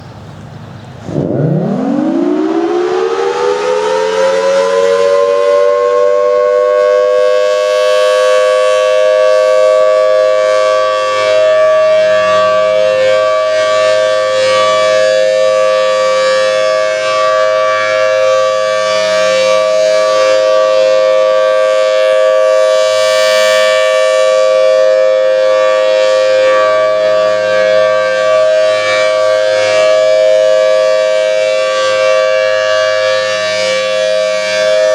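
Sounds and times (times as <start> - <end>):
outdoor warning siren wailing: 1.0 - 34.9.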